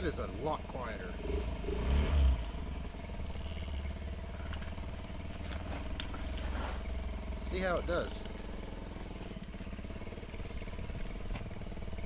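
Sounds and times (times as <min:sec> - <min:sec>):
scooter engine idling: 0:00.0 - 0:01.8, 0:02.4 - 0:12.0.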